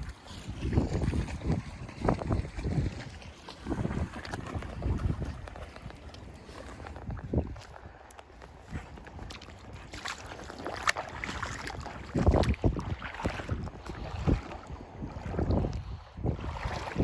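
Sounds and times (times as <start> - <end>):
water sloshing and splashing: 0.0 - 17.0
wind buffeting microphone: 0.0 - 17.0.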